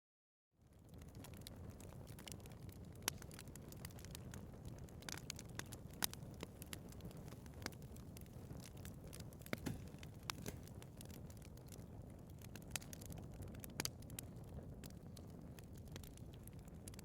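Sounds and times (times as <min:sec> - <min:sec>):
fire crackling and popping: 0:00.6 - 0:17.0
wood fire rushing: 0:01.0 - 0:17.0.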